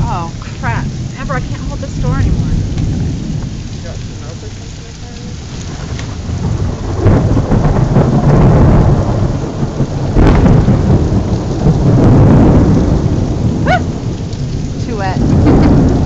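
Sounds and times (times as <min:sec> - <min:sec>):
heavy rain: 0:00.0 - 0:16.0
rolling thunder: 0:00.0 - 0:16.0
sharp thunder crack: 0:00.0 - 0:16.0.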